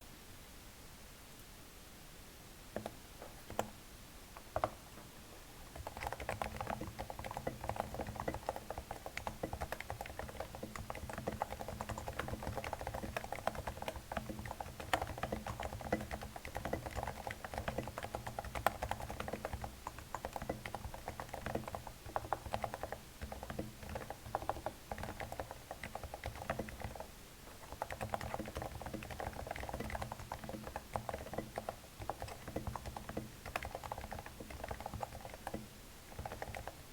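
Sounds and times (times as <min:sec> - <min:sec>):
keyboard typing: 0:02.8 - 0:03.8, 0:04.4 - 0:04.8, 0:05.6 - 0:36.8.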